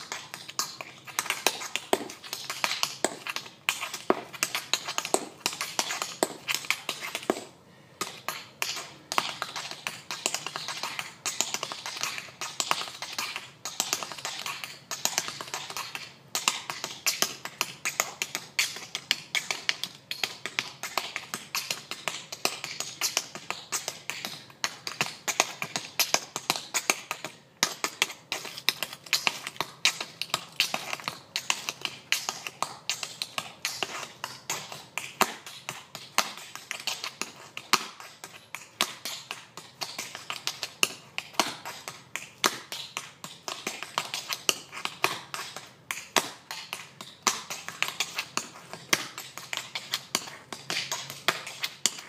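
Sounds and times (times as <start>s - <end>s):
tap shoes on concrete: 0.0s - 52.0s.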